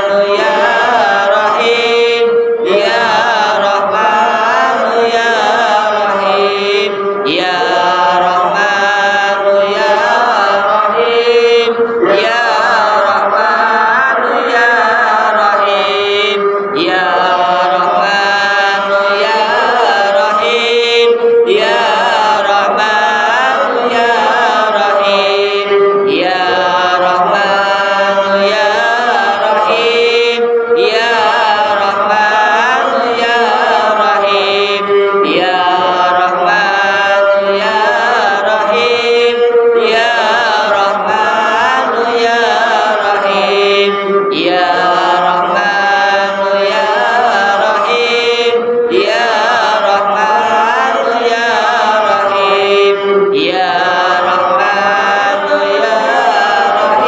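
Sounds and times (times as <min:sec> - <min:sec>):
voices chanting melodically: 0:00.0 - 0:57.0.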